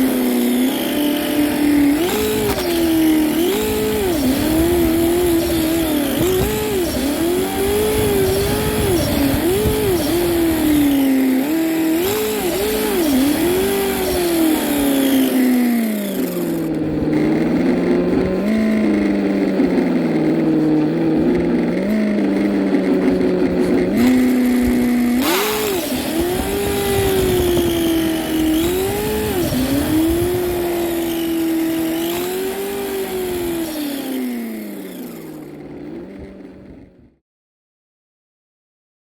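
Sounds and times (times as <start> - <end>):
remote-control car motor whirring: 0.0 - 36.5.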